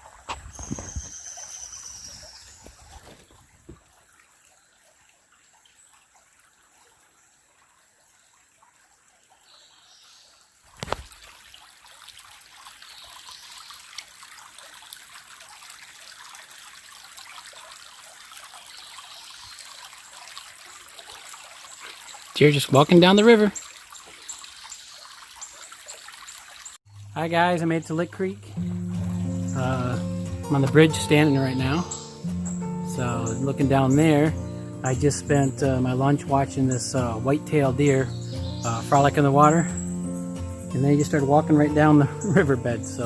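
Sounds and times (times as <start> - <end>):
creek water trickling over stones: 0.0 - 43.0.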